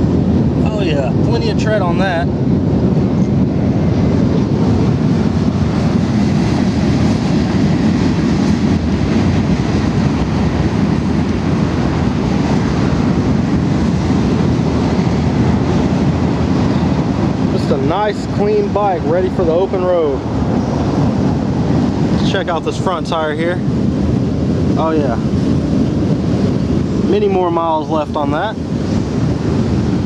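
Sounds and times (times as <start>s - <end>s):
wind blowing across microphone: 0.0s - 30.0s.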